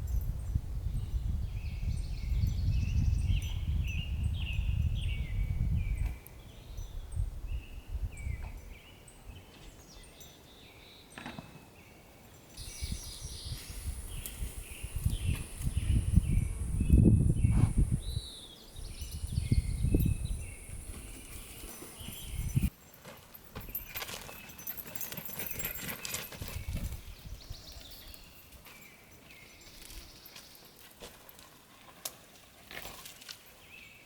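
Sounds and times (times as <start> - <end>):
songbirds chirping: 1.0 - 31.0.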